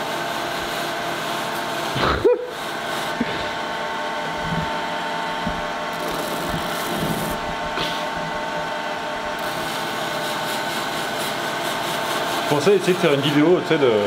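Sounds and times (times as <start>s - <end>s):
polishing machine motor running: 0.0s - 14.0s
steel bar grinding on felt wheel: 0.0s - 14.0s.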